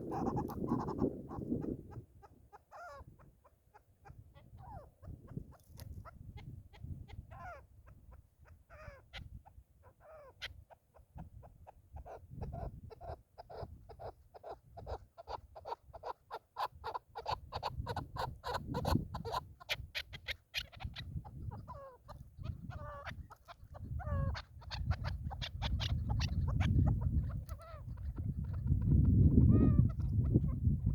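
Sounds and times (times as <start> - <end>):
partridges calling: 0.0 - 9.4, 10.0 - 30.7.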